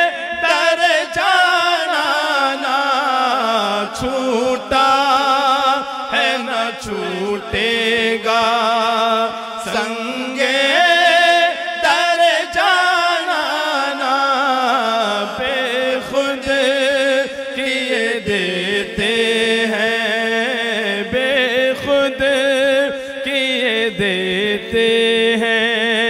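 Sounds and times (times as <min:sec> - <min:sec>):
man chanting melody: 0:00.0 - 0:26.0.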